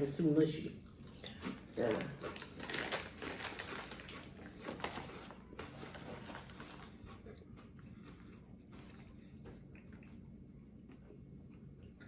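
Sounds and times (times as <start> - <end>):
chewing with crackly clicks: 0.8 - 12.0.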